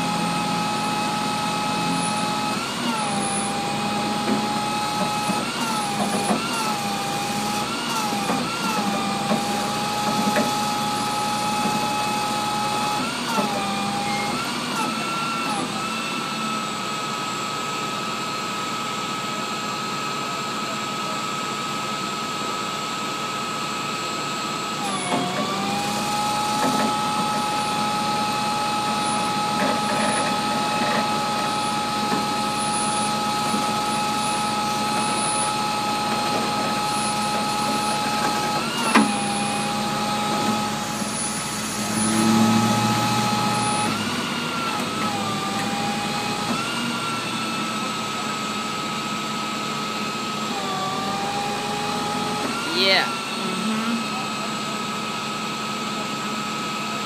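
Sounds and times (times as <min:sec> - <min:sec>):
winch and hydraulics whining: 0:00.0 - 0:57.0.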